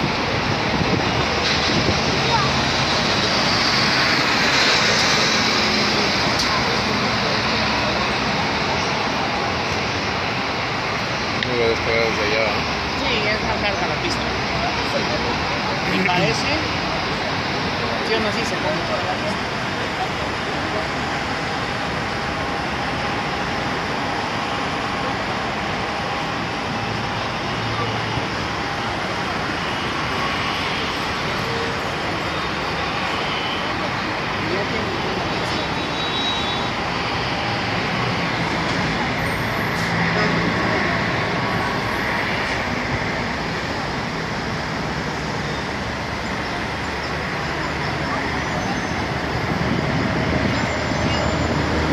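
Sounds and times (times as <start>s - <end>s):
road traffic roar: 0.0s - 51.9s.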